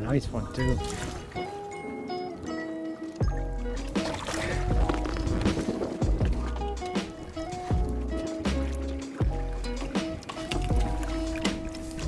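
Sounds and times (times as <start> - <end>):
music with held notes: 0.6 - 12.0.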